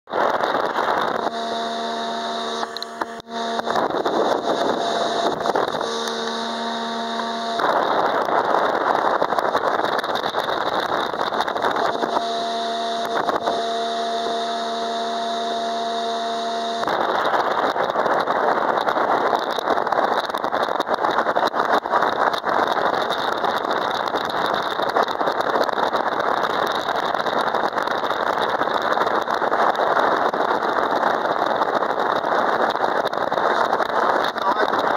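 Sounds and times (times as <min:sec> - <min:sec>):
speedboat engine running: 0:00.1 - 0:34.9
wind and water rushing: 0:00.1 - 0:34.9.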